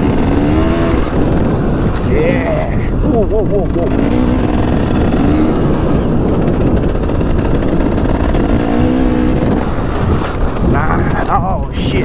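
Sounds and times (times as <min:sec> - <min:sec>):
dirt bike engine revving: 0:00.0 - 0:12.0
wind noise on microphone: 0:00.0 - 0:12.0.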